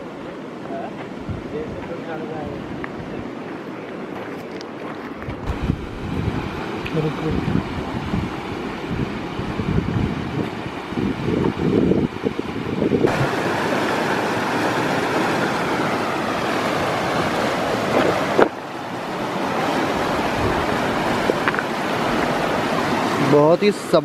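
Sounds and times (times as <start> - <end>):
wind buffeting microphone: 1.1 - 3.6, 5.1 - 23.4
fast-flowing river rushing: 1.9 - 24.0.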